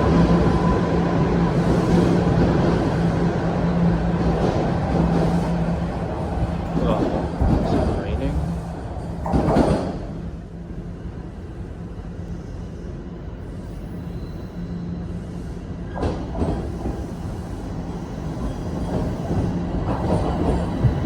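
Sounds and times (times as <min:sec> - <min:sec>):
subway train rumble and hum: 0:00.0 - 0:21.0.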